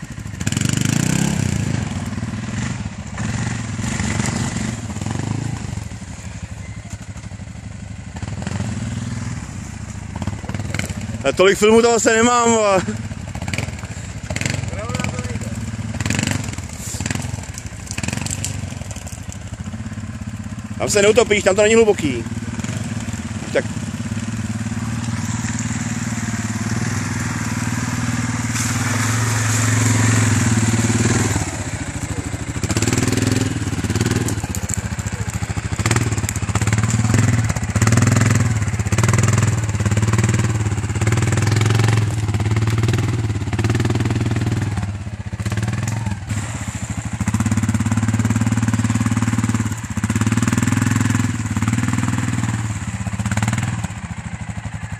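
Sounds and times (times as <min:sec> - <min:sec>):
quad bike engine revving: 0:00.0 - 0:54.9.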